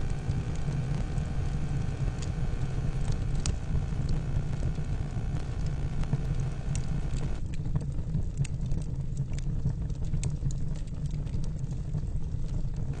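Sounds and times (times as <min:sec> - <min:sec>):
fire crackling and popping: 0:00.0 - 0:13.0
low steady rumble: 0:00.0 - 0:13.0.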